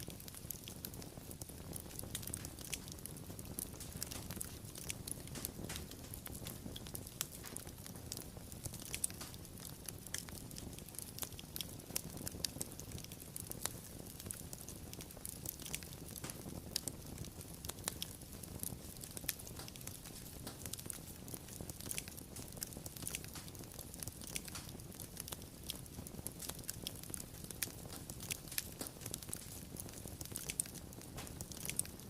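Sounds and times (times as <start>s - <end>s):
low rumble of flames: 0.0s - 32.0s
wood crackling and popping: 0.0s - 32.0s.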